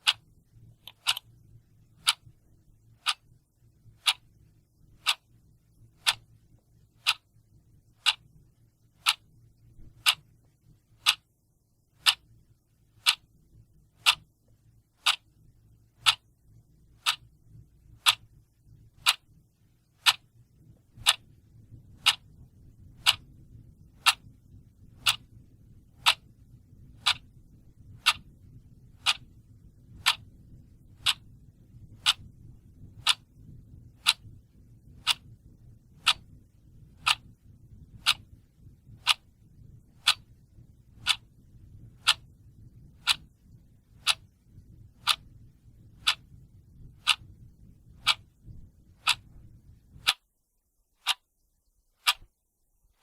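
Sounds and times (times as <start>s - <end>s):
clock ticking: 0.0s - 11.3s, 12.0s - 19.4s, 20.0s - 50.3s, 51.0s - 51.3s, 52.0s - 52.3s
faint low hum: 0.0s - 53.0s.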